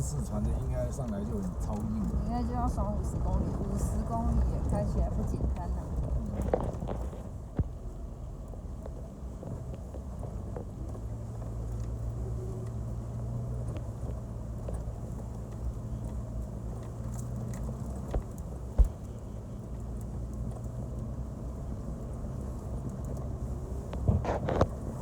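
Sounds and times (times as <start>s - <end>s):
off-road vehicle engine running: 0.0s - 25.0s
vehicle rattles and knocks: 0.0s - 25.0s.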